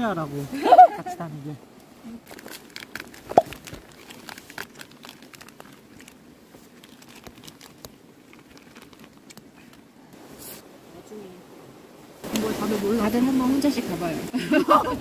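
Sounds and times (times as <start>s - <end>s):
campfire wood crackling: 0.0s - 14.7s.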